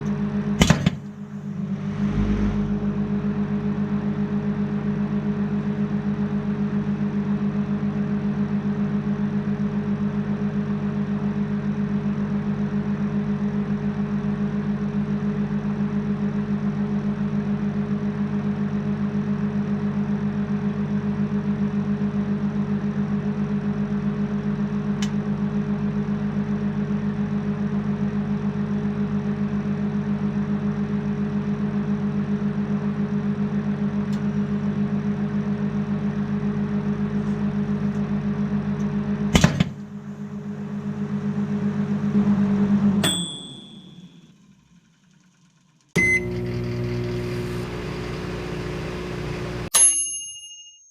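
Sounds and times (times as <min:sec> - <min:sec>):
microwave oven hum: 0:00.0 - 0:49.7.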